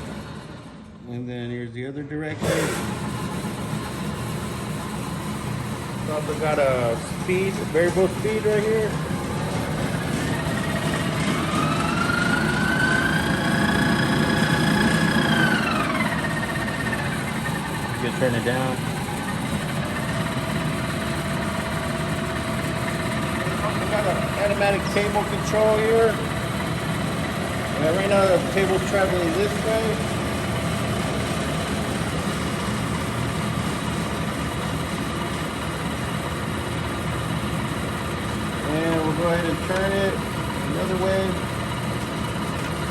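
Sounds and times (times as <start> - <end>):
milling machine whine: 2.4 - 42.9.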